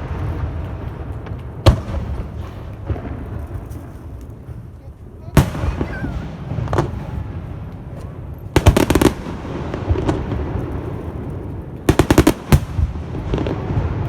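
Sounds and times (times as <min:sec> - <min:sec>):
fireworks bangs: 0:00.0 - 0:14.0
low rumble: 0:00.0 - 0:14.0.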